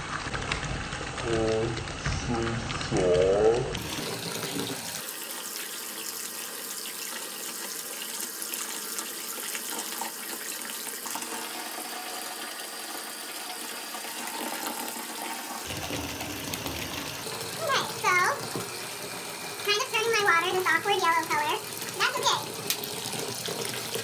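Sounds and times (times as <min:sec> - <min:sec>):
faucet stream splashing into bath: 0:00.0 - 0:24.0.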